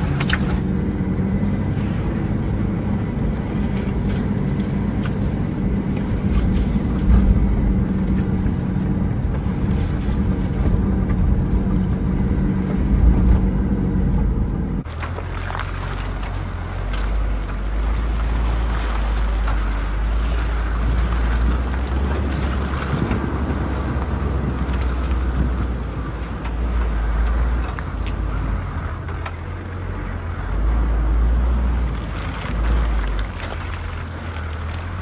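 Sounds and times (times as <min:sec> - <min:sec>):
vehicle engine and tyres rumbling: 0:00.0 - 0:35.0.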